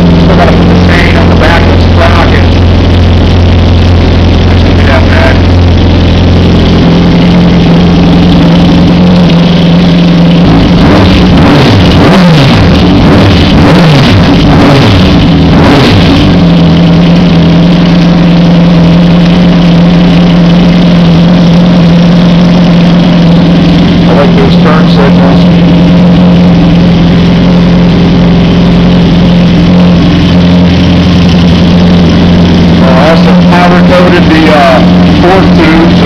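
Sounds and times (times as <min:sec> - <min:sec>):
motorcycle engine idling: 0:00.0 - 0:36.0.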